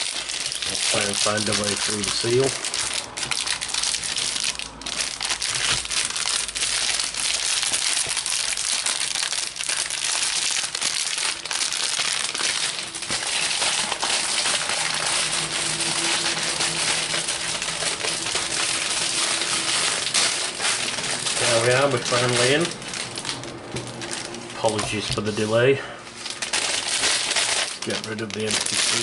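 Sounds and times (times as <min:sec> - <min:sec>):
plastic wrapping crinkling: 0:00.0 - 0:29.0.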